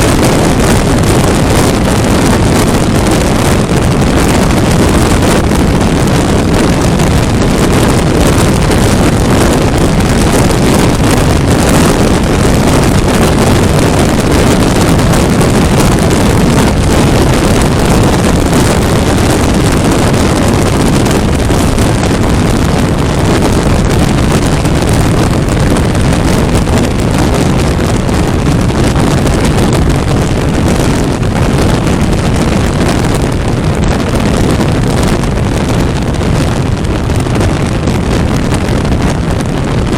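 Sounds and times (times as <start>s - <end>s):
wind rushing on microphone: 0.0s - 39.9s.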